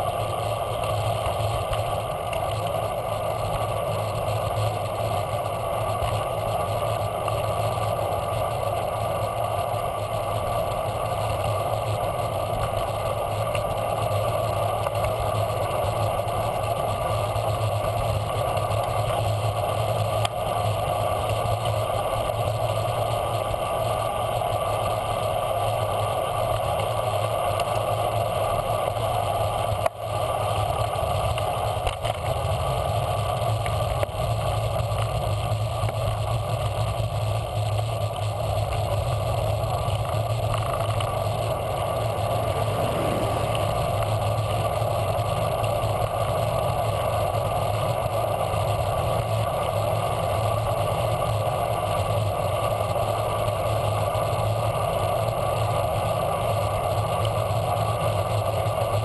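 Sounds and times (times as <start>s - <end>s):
wind and road rush: 0.0s - 59.0s.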